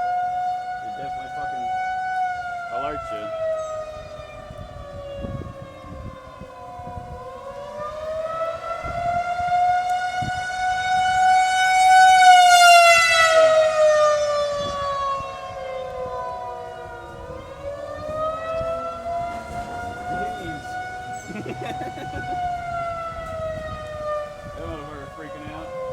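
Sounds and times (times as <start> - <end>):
warning siren wailing: 0.0 - 25.9.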